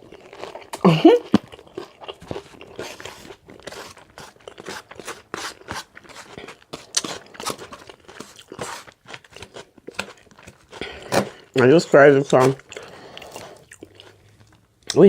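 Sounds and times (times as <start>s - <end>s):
person chewing crisp salad: 0.0s - 15.0s.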